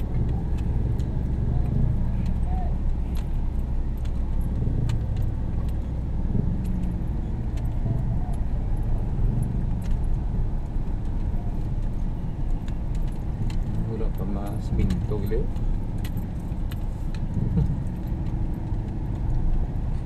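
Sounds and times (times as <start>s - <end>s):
engine and road rumble: 0.0s - 20.0s
small clicks and rattles: 0.0s - 20.0s.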